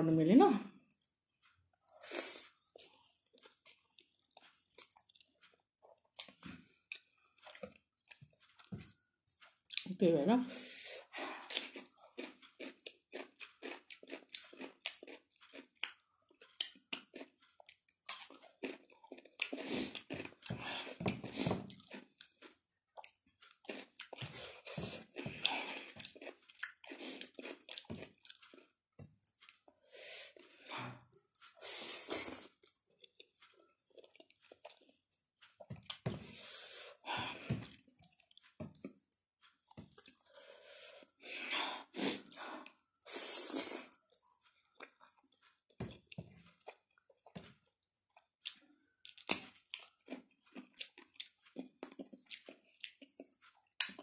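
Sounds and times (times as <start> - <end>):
crunchy chewing: 0.9 - 9.8, 11.4 - 41.2, 41.8 - 54.0.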